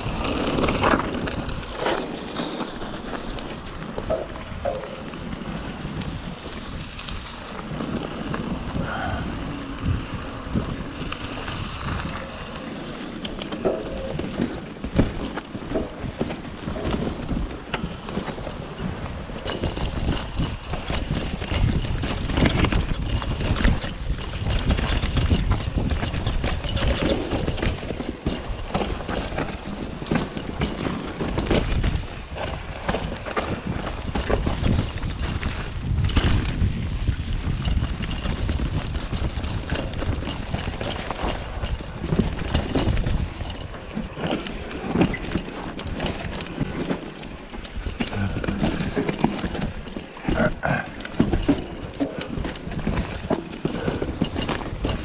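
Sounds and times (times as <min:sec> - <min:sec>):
bike rattling and knocking: 0:00.0 - 0:55.0
wind buffeting microphone: 0:00.0 - 0:55.0.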